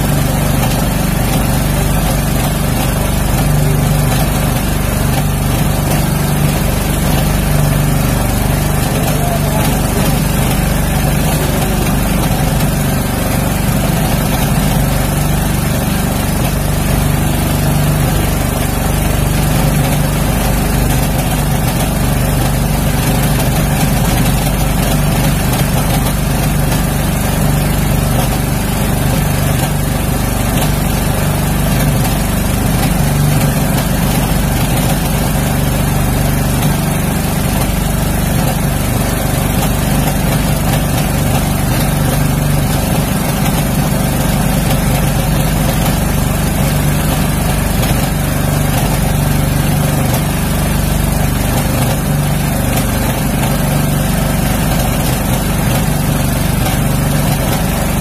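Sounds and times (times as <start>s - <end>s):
boat engine hum: 0.0s - 58.0s.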